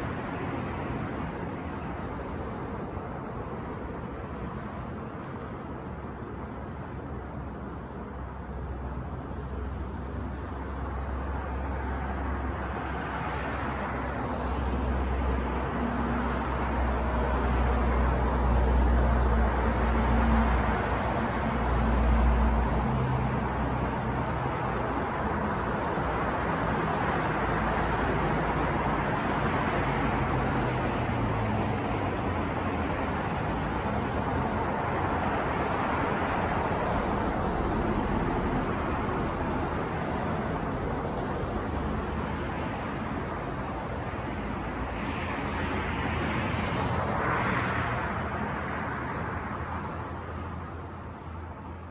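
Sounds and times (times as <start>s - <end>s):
passing vehicles: 0.0s - 51.9s.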